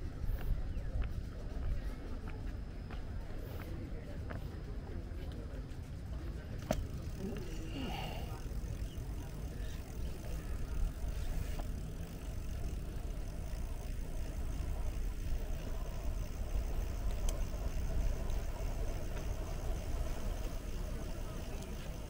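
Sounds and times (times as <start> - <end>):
bicycle tyres rolling on pavement: 0.0 - 22.0.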